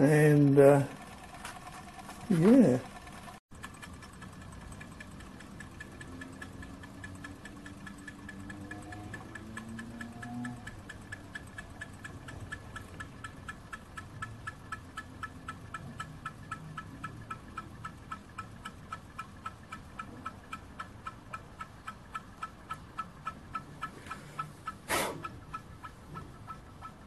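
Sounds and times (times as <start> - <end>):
stirling engine rapid ticking: 0.0 - 27.0.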